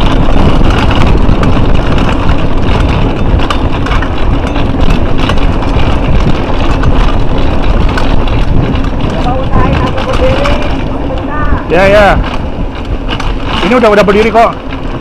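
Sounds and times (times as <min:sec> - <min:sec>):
rattles and knocks: 0:00.0 - 0:15.0
wind rumble on microphone: 0:00.0 - 0:15.0.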